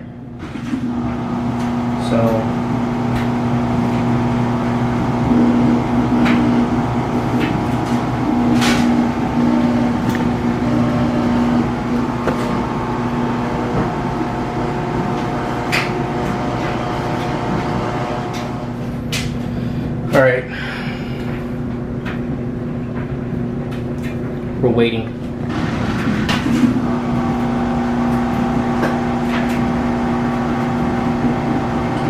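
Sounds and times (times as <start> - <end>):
washer drain pump humming: 0.0 - 32.0.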